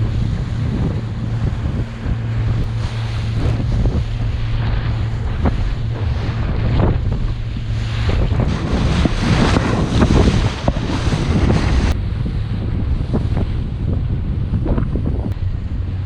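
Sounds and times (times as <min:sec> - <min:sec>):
boat engine running: 0:00.0 - 0:16.0
water splashing against hull: 0:00.0 - 0:16.0
wind buffeting microphone: 0:00.0 - 0:16.0.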